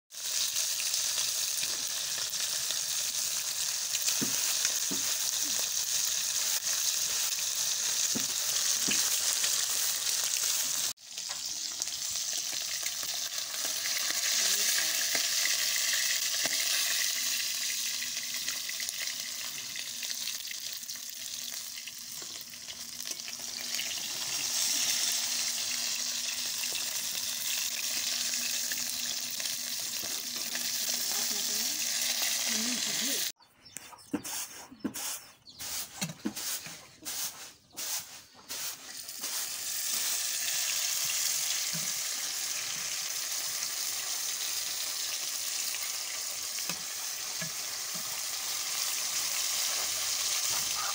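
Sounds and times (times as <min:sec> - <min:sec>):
deep-frying sizzle in oil: 0:00.1 - 0:33.3, 0:37.2 - 0:50.9.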